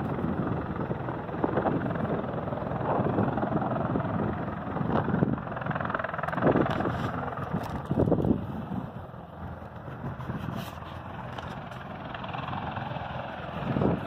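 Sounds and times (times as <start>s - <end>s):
distant helicopter rumble: 0.0s - 14.0s
wind buffeting microphone: 0.0s - 14.0s.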